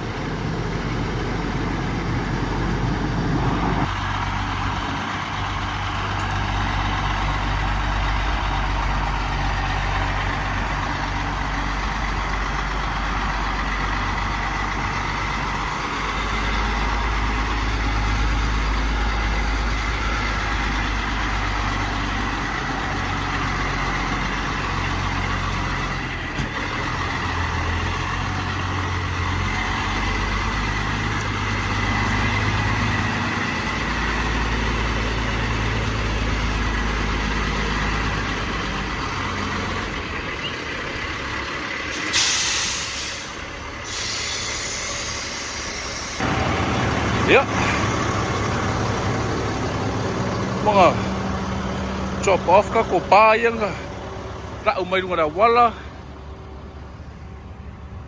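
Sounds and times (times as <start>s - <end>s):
heavy truck engine idling: 0.0s - 58.0s.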